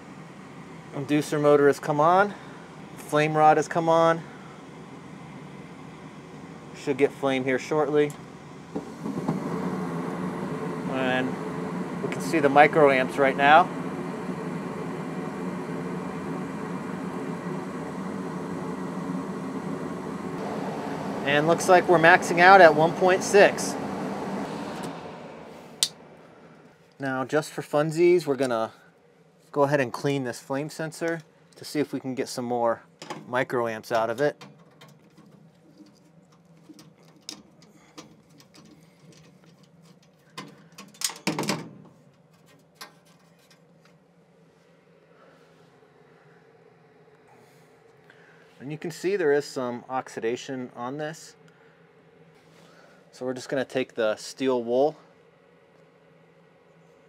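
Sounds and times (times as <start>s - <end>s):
gas furnace rushing hum: 0.0s - 57.0s.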